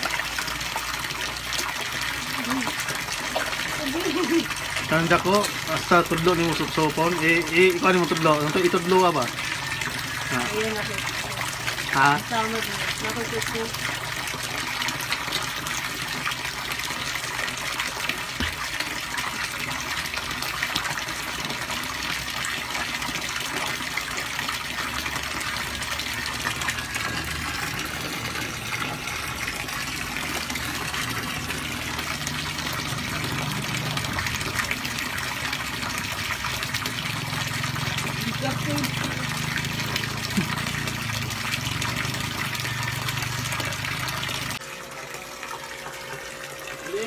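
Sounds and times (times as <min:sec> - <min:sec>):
water splashing in a pond: 0:00.0 - 0:47.0.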